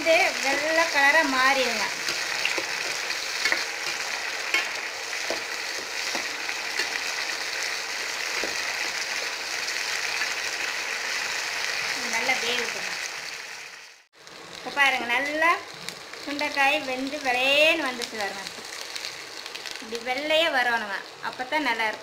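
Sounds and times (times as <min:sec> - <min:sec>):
berries sizzling in hot oil: 0:00.0 - 0:22.0.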